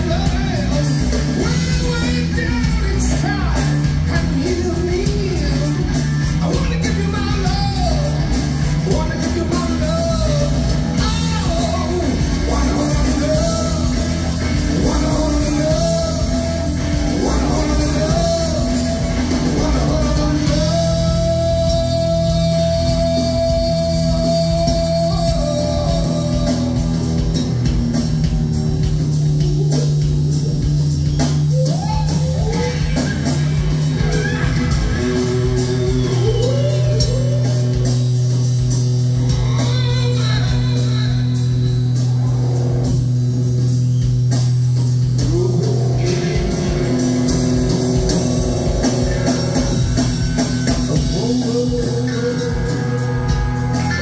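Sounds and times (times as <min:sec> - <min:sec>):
bending lead guitar line: 0:00.0 - 0:54.0
live rock band playing: 0:00.0 - 0:54.0.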